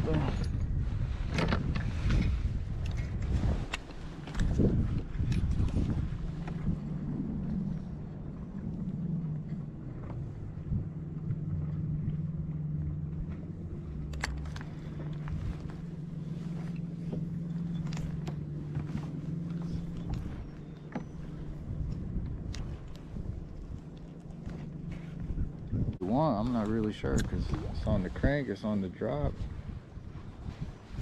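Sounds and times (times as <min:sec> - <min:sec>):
water and wind rumble on hull: 0:00.0 - 0:31.0
electric trolling motor humming: 0:00.4 - 0:26.0.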